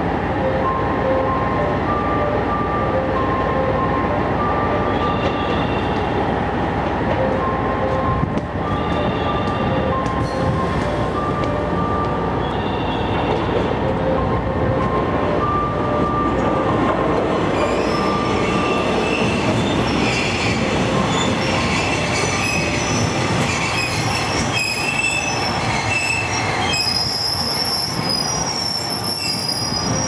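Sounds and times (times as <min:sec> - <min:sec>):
diesel railcar engine and wheels: 0:00.0 - 0:30.0.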